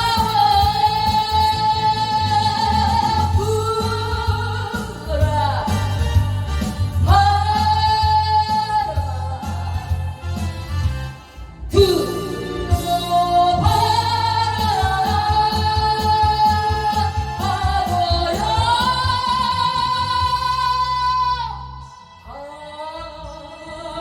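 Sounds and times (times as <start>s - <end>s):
woman singing: 0.0s - 10.2s, 11.7s - 24.0s
steady bass beat: 0.0s - 21.0s.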